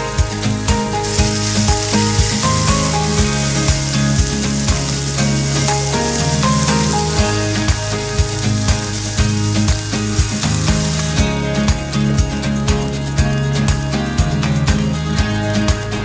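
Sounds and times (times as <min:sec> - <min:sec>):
background music with a beat: 0:00.0 - 0:16.0
meat sizzling in a frying pan: 0:00.1 - 0:15.2.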